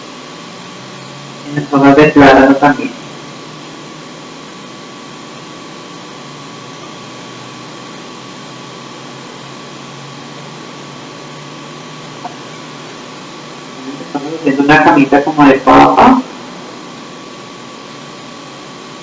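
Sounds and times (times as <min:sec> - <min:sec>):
faint hum: 0:00.0 - 0:19.0
steady hiss: 0:00.0 - 0:19.0.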